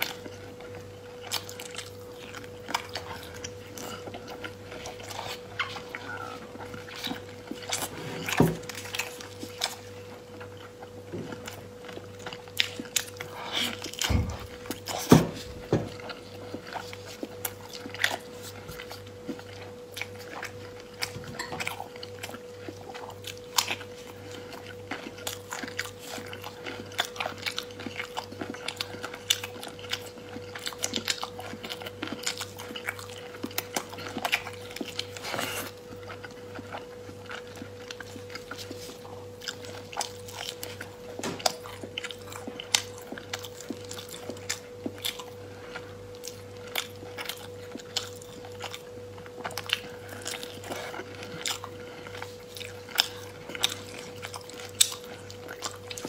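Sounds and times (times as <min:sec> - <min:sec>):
crunchy chewing: 0:00.0 - 0:56.0
faint steady hum: 0:00.0 - 0:56.0.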